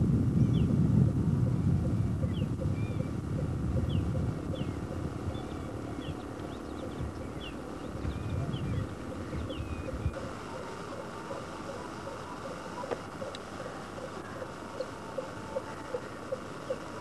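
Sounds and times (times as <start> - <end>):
steady low rumble: 0.0 - 17.0
birds chirping: 0.3 - 17.0.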